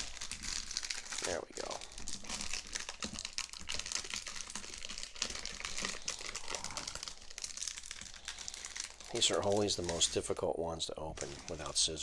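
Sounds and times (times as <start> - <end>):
plastic wrapper crackling: 0.0 - 12.0.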